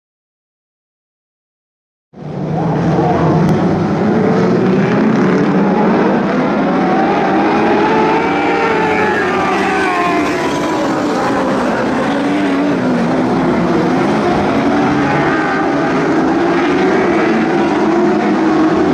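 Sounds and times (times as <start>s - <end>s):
racing car engines: 2.2s - 18.9s.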